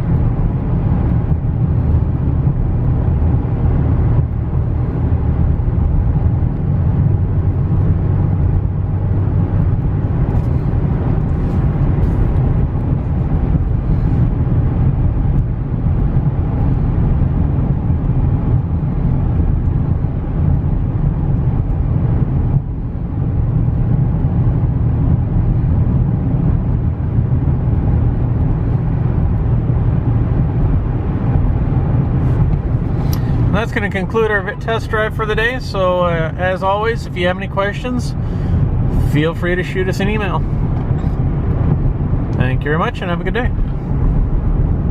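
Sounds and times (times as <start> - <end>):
pickup engine and road hum: 0.0 - 44.9.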